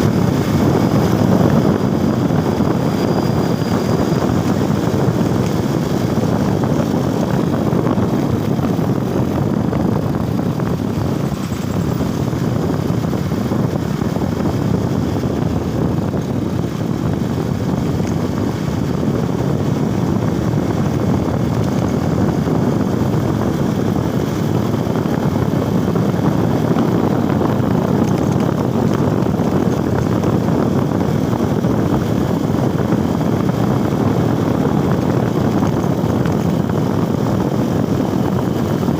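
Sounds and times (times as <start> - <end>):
motorcycle engine drone: 0.0 - 38.9
rushing wind: 0.0 - 38.9.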